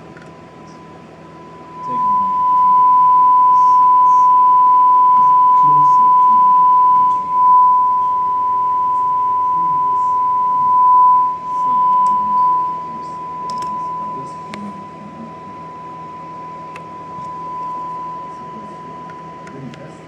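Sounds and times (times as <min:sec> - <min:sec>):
sine test tone: 0:00.0 - 0:20.0.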